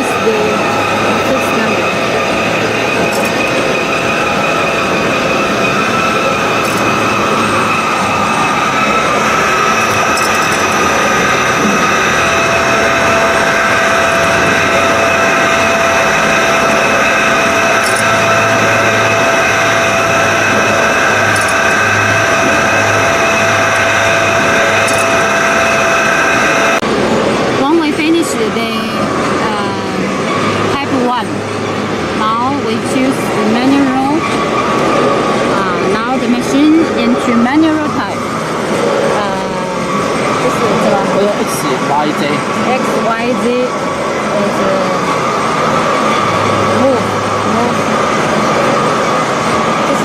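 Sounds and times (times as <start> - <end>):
grinding machine whining: 0.0 - 50.0.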